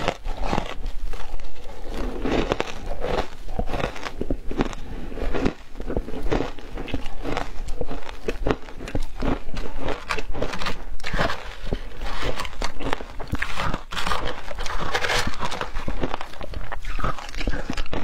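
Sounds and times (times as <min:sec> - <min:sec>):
chewing shaved ice: 0:00.0 - 0:18.0.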